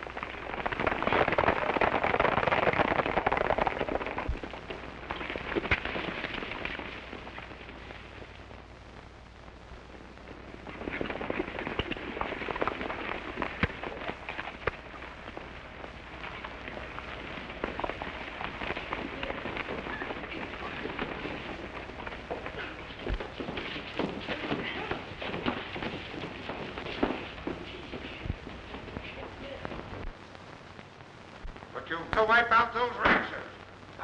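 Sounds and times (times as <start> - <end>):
horses galloping over dirt: 0.0 - 8.6, 10.3 - 30.1
sharp cracks: 0.0 - 34.0.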